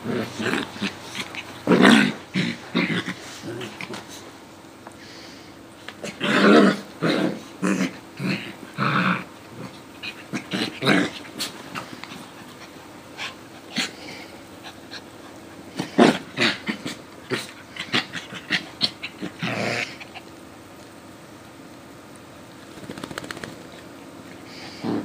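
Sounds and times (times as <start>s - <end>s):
small dogs play-growling: 0.0s - 21.2s, 22.5s - 25.0s.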